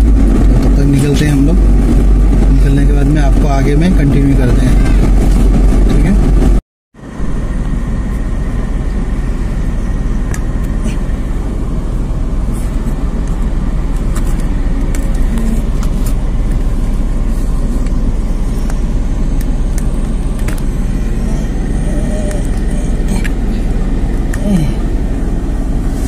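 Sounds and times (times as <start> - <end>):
vehicle road and engine rumble: 0.0 - 26.0.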